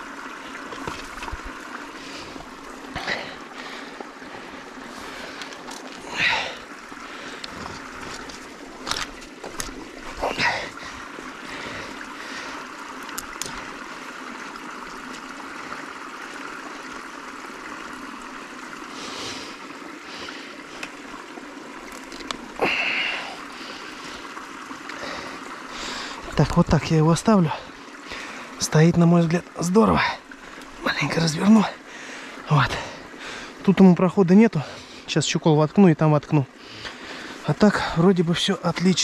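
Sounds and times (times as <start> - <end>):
stream trickling and gurgling: 0.0 - 39.0.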